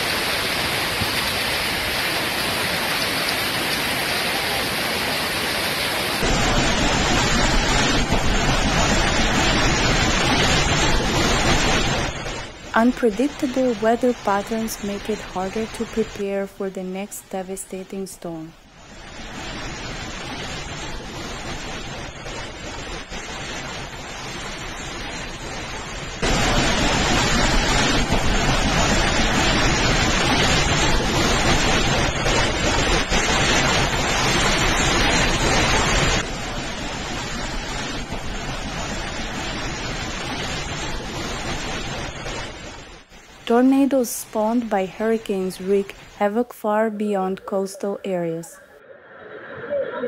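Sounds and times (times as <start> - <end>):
heavy rain: 0.0 - 48.6.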